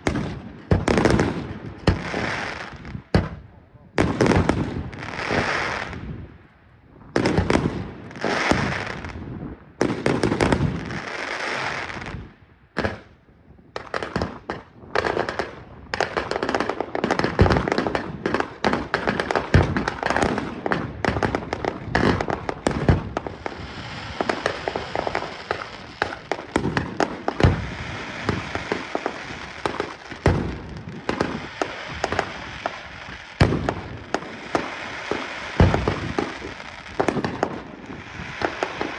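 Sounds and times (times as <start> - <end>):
firework crackling: 0.0 - 3.4, 4.0 - 6.2, 7.2 - 13.1, 13.8 - 38.9
rapid firework bangs: 0.0 - 3.4, 4.0 - 6.1, 7.2 - 9.2, 9.8 - 12.2, 12.8 - 13.1, 13.8 - 38.9.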